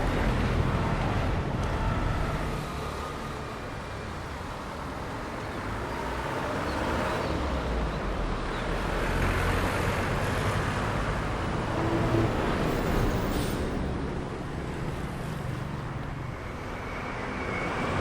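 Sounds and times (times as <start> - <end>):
traffic passing: 0.0 - 18.0.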